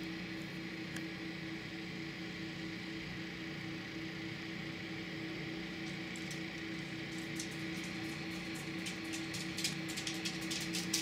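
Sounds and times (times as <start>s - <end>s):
water pumps humming: 0.0s - 11.0s.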